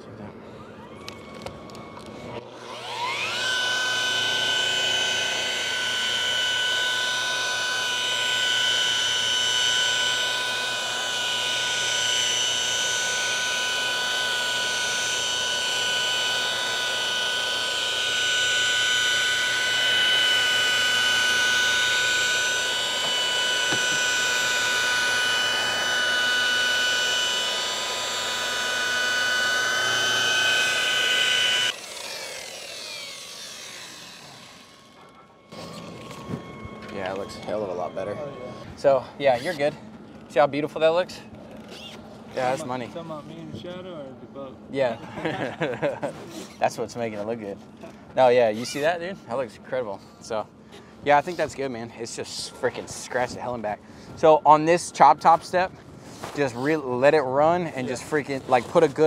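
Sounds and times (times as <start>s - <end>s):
rotary polisher whine: 0.6s - 43.1s, 51.0s - 59.0s.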